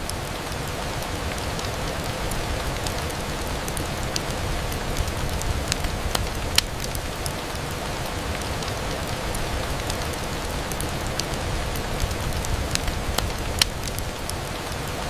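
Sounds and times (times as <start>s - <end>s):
rain on a window: 0.0s - 15.0s
raindrops ticking on glass: 0.0s - 15.0s.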